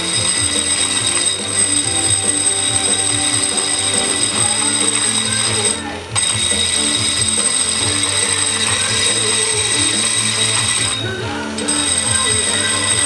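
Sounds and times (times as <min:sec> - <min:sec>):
angle grinder grinding concrete: 0:00.0 - 0:13.0.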